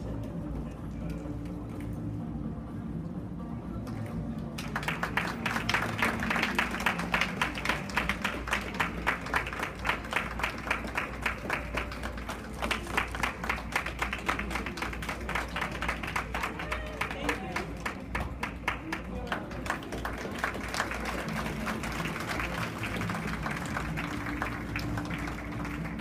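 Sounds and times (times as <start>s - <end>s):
audience clapping in rhythm: 3.9s - 26.0s.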